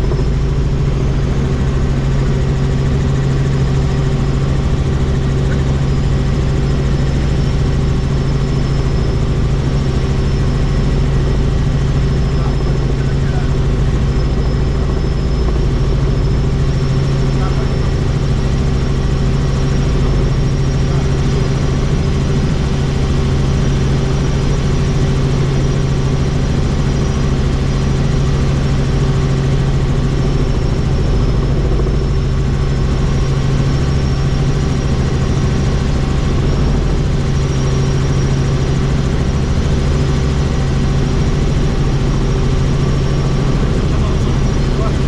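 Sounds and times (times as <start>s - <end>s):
helicopter rotor and turbine drone: 0.0s - 45.0s.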